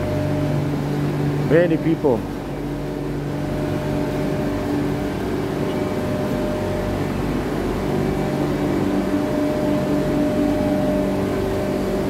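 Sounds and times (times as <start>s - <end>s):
electric train humming: 0.0s - 12.0s
steady tones: 0.0s - 12.0s.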